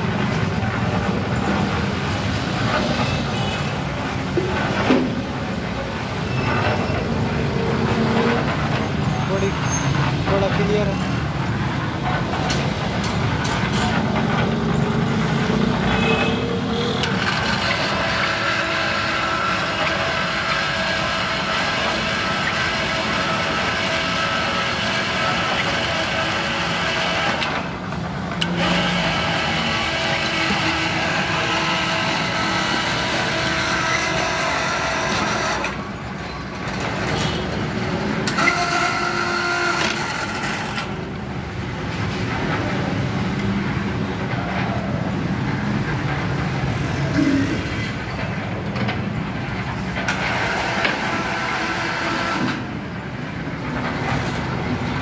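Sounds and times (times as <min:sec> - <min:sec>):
hoist motor whining: 0:00.0 - 0:55.0.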